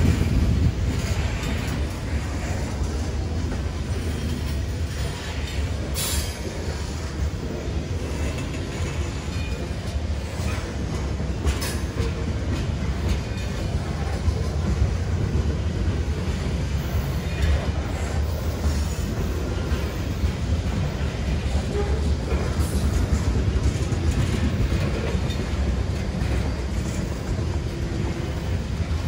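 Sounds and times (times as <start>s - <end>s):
freight train wheels rumbling on rails: 0.0s - 29.0s.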